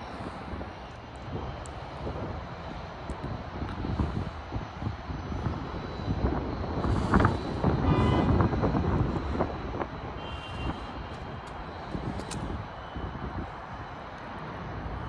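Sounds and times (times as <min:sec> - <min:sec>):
distant traffic rumble: 0:00.0 - 0:15.0
wind buffeting microphone: 0:00.0 - 0:15.0.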